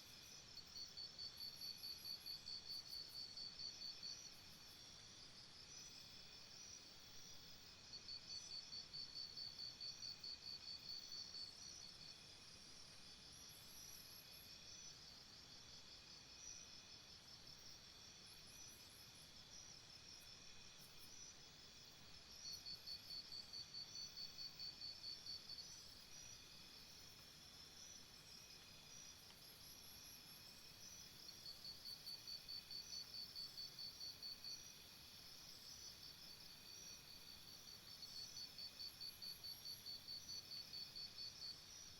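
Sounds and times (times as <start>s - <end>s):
rapidly pulsing insect trill: 0.0s - 41.9s.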